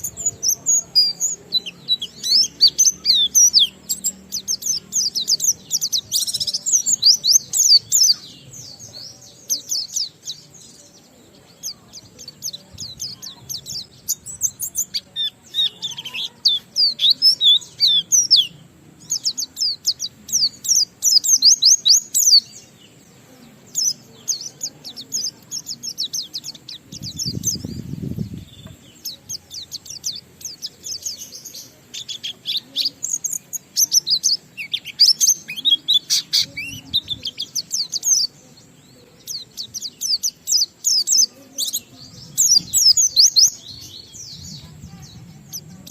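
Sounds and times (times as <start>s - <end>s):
bird singing high twittering chirps: 0.0s - 45.9s.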